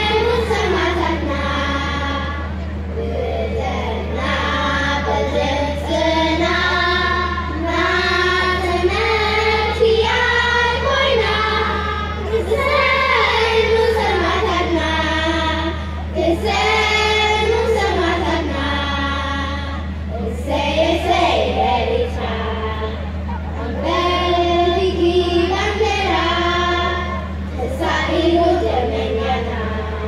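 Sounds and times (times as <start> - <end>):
children's choir singing: 0.0 - 30.0.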